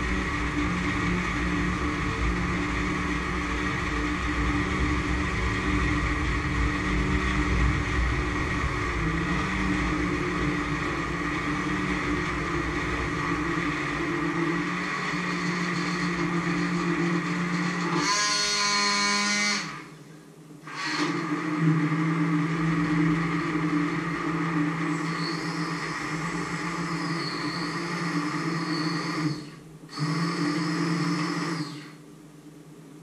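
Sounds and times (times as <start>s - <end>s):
stick blender whirring in liquid: 0.0s - 19.9s, 20.7s - 32.0s.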